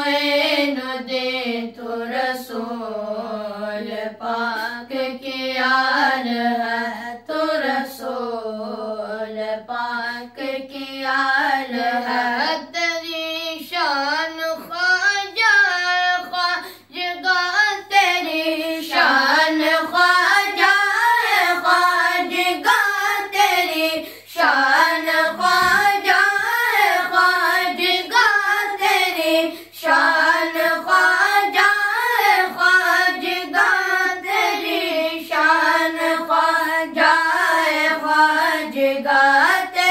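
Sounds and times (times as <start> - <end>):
boys singing devotional song: 0.0 - 39.9.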